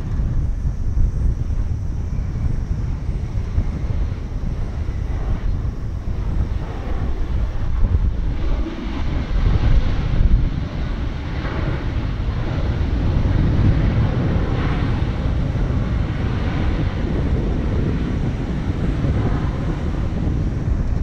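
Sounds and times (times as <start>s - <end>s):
distant jet engine: 0.0s - 21.0s
wind rumble on microphone: 0.0s - 21.0s.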